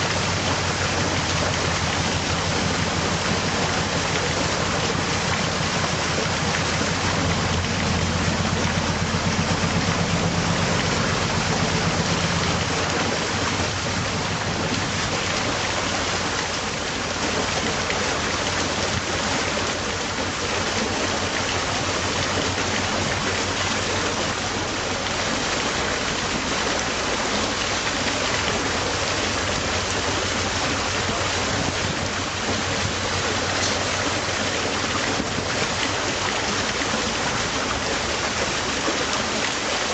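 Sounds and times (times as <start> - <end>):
boat engine running low: 0.0 - 39.9
water rushing in canal lock: 0.0 - 39.9.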